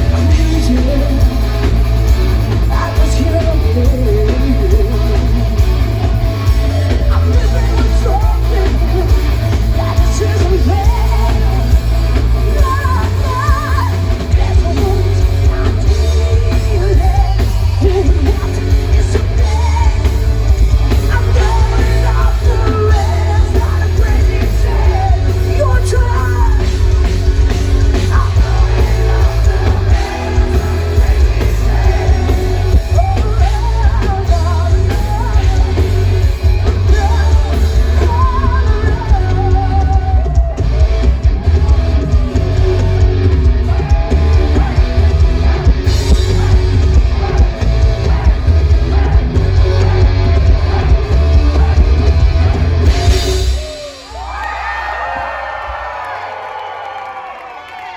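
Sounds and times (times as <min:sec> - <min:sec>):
person singing: 0:00.0 - 0:01.8, 0:02.5 - 0:54.0
distorted electric guitar: 0:00.0 - 0:54.1
drum kit: 0:00.0 - 0:55.3
bass guitar: 0:00.0 - 0:56.0.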